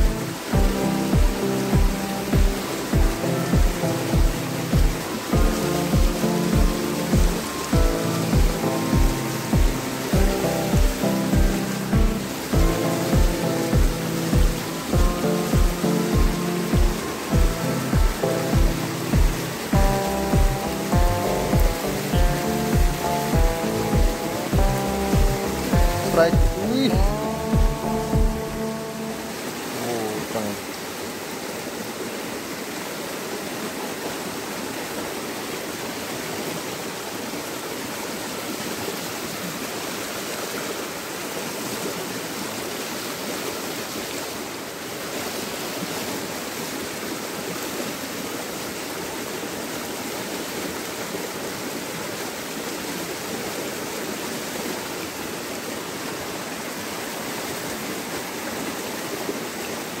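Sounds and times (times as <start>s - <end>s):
stream rushing over rocks: 0.0s - 60.0s.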